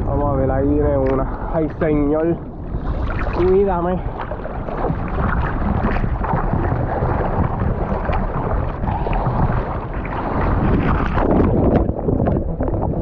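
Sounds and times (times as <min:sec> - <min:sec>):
surf water rushing and splashing: 0:00.0 - 0:13.0
wind buffeting microphone: 0:00.0 - 0:13.0.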